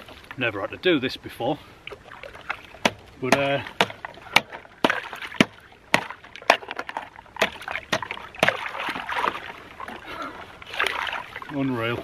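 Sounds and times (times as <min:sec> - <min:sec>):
water sloshing and splashing: 0:01.6 - 0:12.0.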